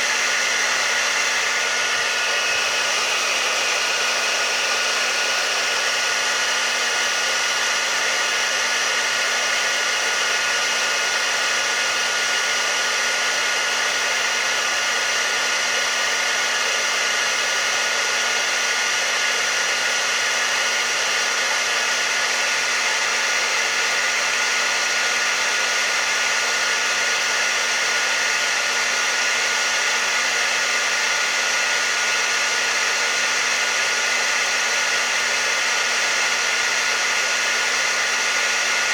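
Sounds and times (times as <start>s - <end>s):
hair dryer blowing air: 0.0s - 38.9s.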